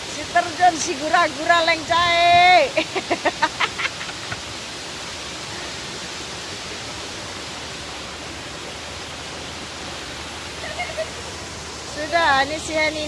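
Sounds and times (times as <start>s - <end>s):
waterfall rushing into a pool: 0.0s - 13.0s.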